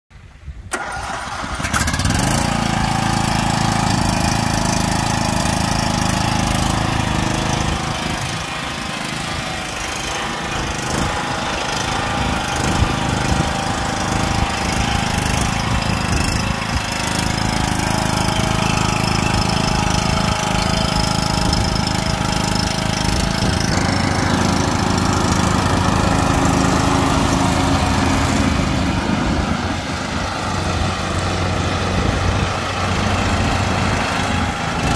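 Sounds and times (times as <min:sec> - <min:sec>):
riding lawn mower engine running: 0:00.2 - 0:34.9.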